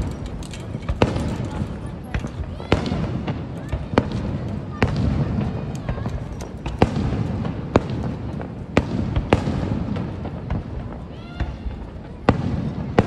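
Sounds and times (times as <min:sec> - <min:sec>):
distant fireworks bangs: 0:00.0 - 0:13.0.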